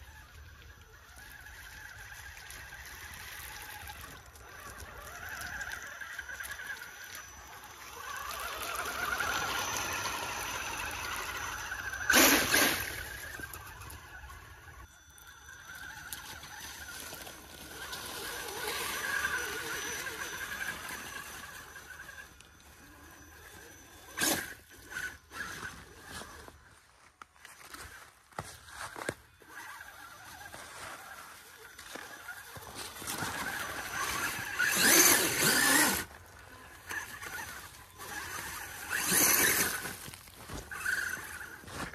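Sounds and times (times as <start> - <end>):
electric motor and drivetrain whining: 0.0 - 41.9
tyres on ice and rocks: 1.1 - 41.9.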